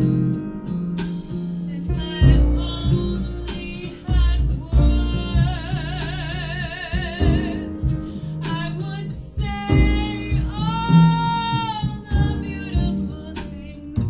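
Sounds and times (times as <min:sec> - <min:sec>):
small jazz band: 0:00.0 - 0:14.0
woman singing: 0:01.7 - 0:14.0.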